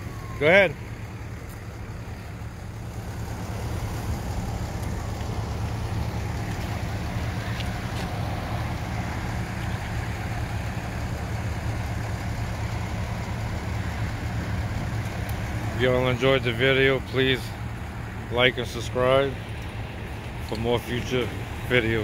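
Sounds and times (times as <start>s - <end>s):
low engine hum: 0.0s - 22.0s
outdoor background noise: 0.0s - 22.0s.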